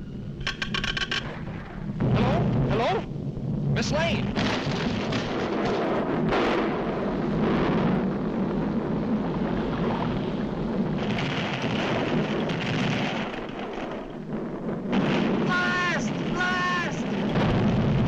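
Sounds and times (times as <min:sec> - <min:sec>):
volcanic eruption roar: 0:01.3 - 0:18.0.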